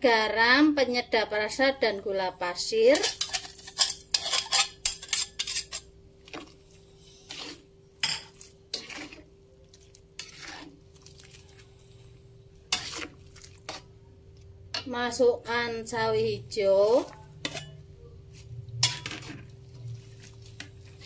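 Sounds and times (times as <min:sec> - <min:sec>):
faint steady hum: 0:00.0 - 0:21.0
spatula stirring soup in wok: 0:02.9 - 0:15.2, 0:15.8 - 0:21.0.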